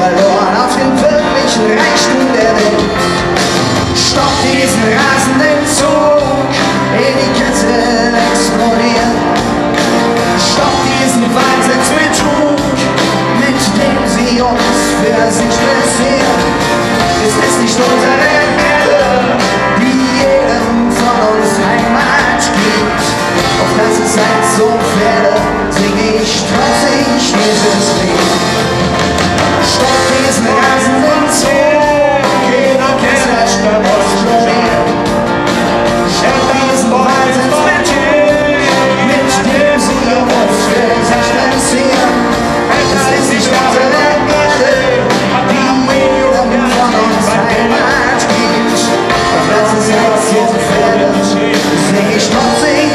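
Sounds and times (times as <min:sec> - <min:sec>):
drums: 0:00.0 - 0:52.9
man singing: 0:00.0 - 0:52.9
strummed acoustic guitars: 0:00.0 - 0:52.9.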